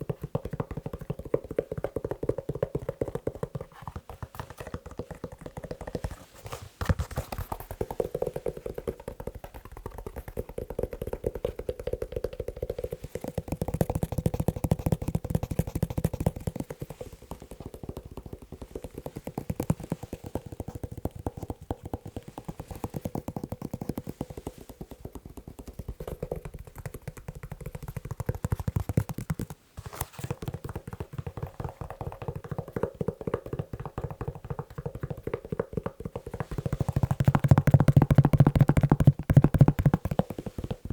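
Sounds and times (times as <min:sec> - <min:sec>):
fingers tapping on leather shoe: 0:00.0 - 0:40.9.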